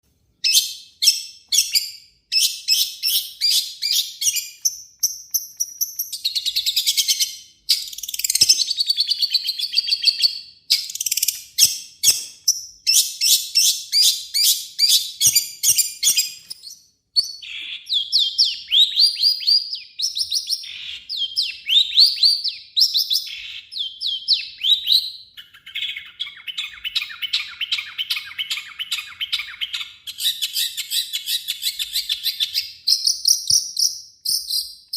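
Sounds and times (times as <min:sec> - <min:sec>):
bird singing harsh chattering song: 0:00.4 - 0:34.9.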